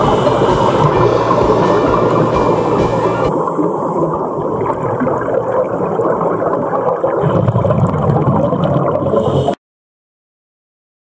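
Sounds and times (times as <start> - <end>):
deep underwater rumble: 0.0 - 9.6
muffled underwater rushing: 0.0 - 9.6.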